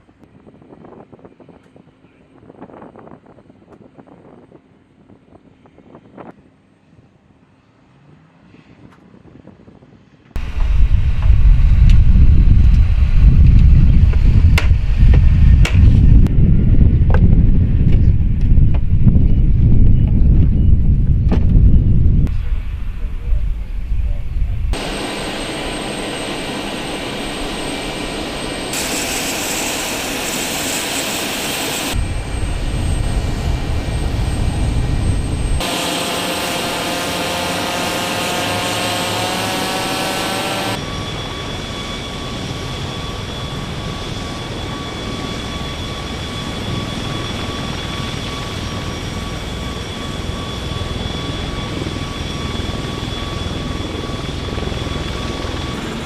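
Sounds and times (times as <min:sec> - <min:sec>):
aircraft turbine engines running: 0:00.0 - 0:56.0
high turbine whine: 0:10.4 - 0:56.0.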